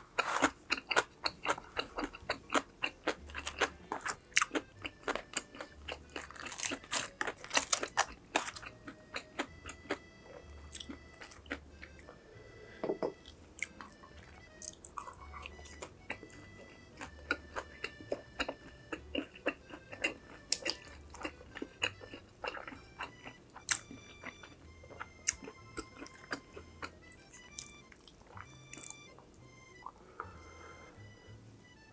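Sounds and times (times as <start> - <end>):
chewing crunchy food: 0.0 - 30.7.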